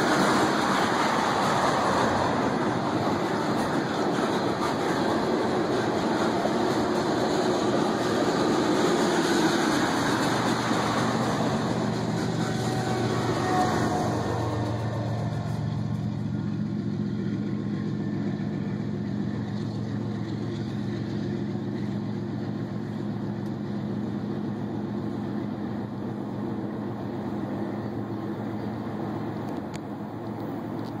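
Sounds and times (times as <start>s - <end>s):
locomotive diesel engine rumble: 0.0s - 31.0s.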